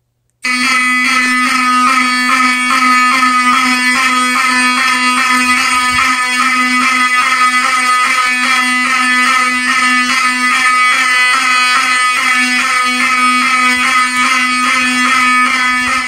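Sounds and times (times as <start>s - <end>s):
fire alarm horn pulsing: 0.4s - 16.0s.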